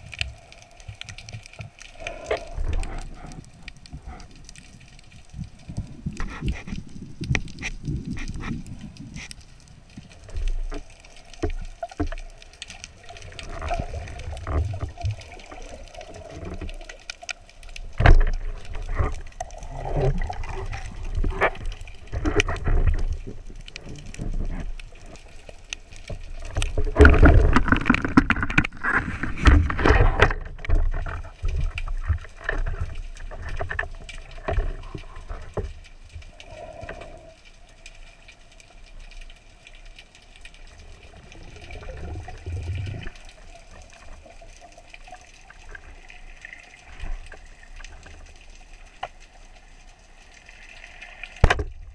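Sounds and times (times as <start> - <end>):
rushing bubbling water: 0.0 - 51.9
water sloshing and gurgling: 0.0 - 51.9.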